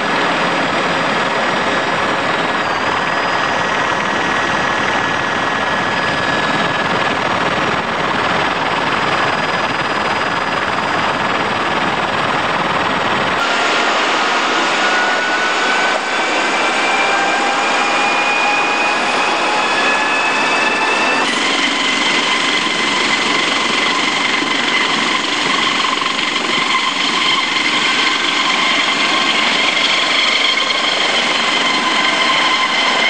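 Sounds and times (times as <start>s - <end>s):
helicopter cabin noise: 0.0s - 33.0s
thin steady whines: 0.4s - 33.0s.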